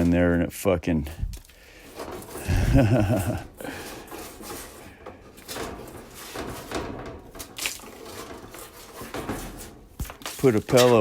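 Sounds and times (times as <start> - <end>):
hands handling dryer parts: 0.0 - 11.0.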